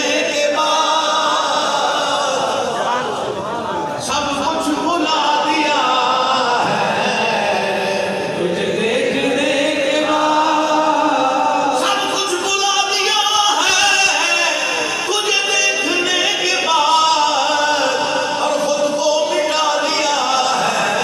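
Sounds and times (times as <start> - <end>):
men singing and chanting: 0.0 - 21.0.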